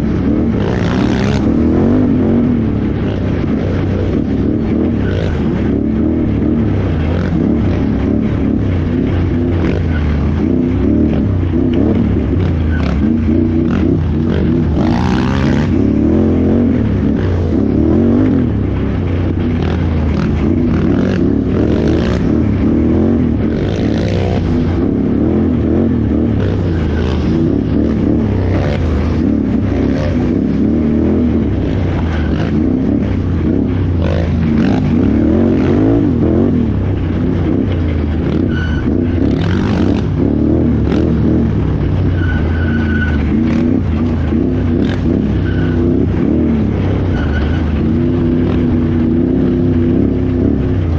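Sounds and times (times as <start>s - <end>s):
atv engine revving: 0.0s - 50.9s
knocks and clatter over rough ground: 0.0s - 50.9s.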